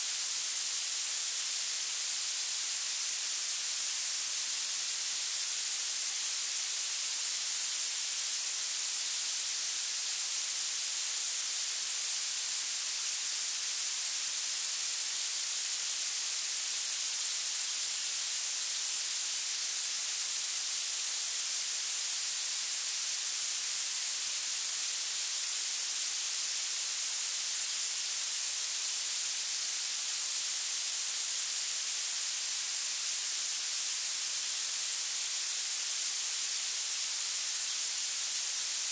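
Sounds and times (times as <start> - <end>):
high-pitched electronic hiss: 0.0 - 38.9.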